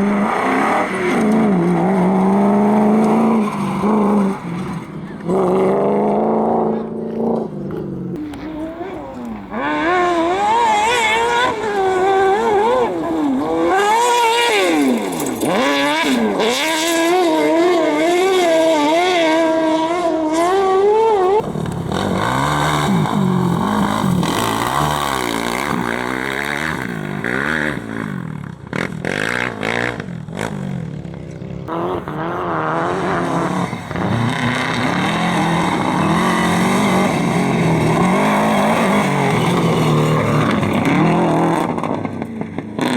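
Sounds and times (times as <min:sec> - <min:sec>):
lower-pitched engine: 0:00.0 - 0:42.9
racing engine at full throttle: 0:00.0 - 0:42.9.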